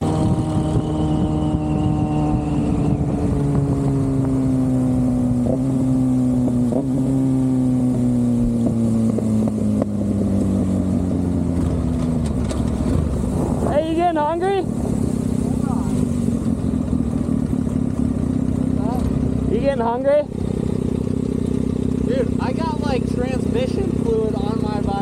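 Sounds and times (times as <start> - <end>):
low wind rumble: 0.0 - 25.0
motorcycle engine cruising: 0.0 - 25.0.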